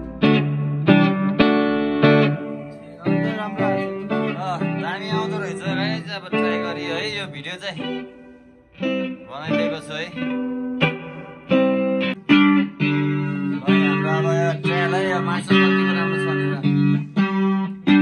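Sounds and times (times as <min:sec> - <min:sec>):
electric guitar chords and notes: 0:00.0 - 0:18.0.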